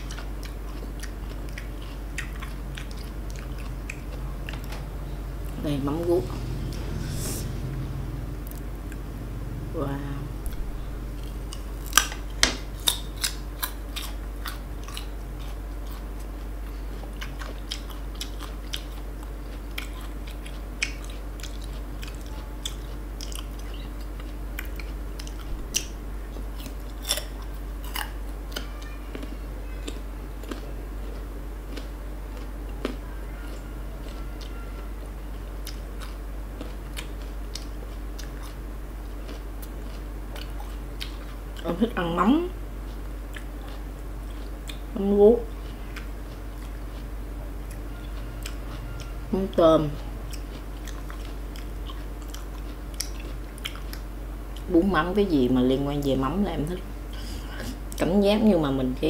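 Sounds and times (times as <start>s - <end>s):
crunchy fruit chewing: 0.0s - 9.2s, 10.4s - 58.1s.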